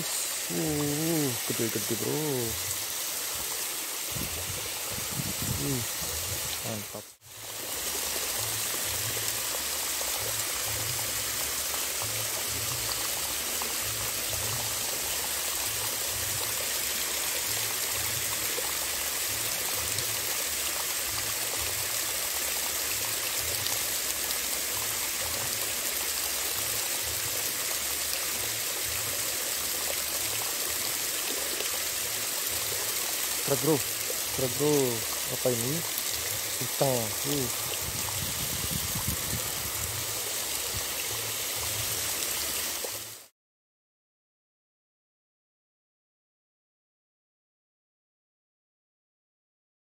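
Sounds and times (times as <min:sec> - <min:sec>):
stream water falling over weir: 0:00.0 - 0:43.3.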